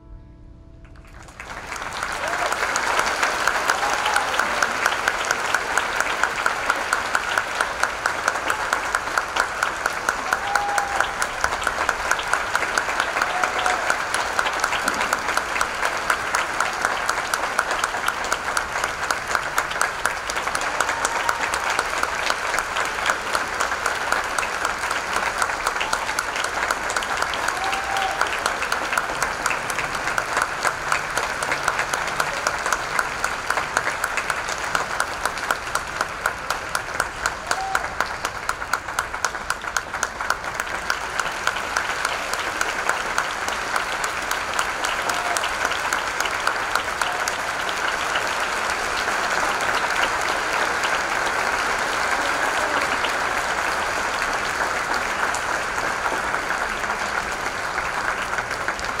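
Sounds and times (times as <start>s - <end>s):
audience applauding: 0.8s - 59.0s.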